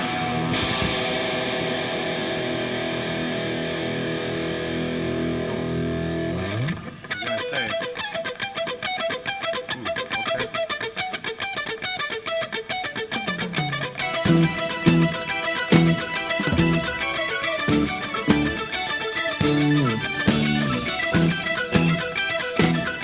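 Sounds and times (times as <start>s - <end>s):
distorted electric guitar: 0.0s - 23.0s
live rock band: 0.0s - 23.0s.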